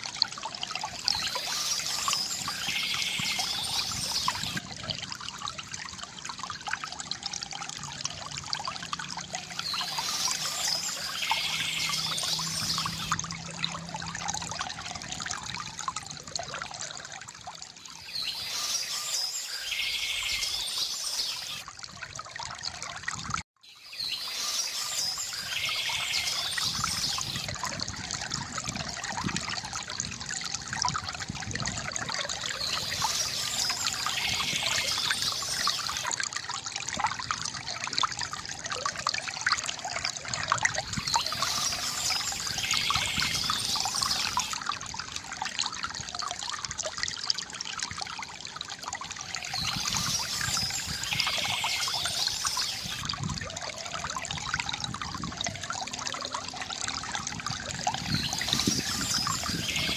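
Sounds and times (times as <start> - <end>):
water trickling from fountain: 0.0 - 59.9.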